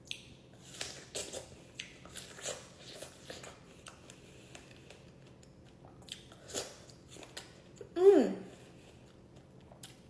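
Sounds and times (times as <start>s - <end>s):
wet chewing and mouth clicks: 0.0s - 7.8s, 9.0s - 10.0s.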